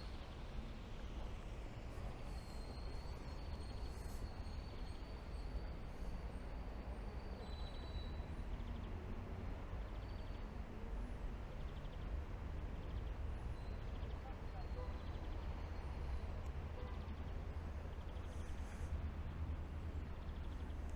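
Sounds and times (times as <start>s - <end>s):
city traffic rumble: 0.0s - 20.9s.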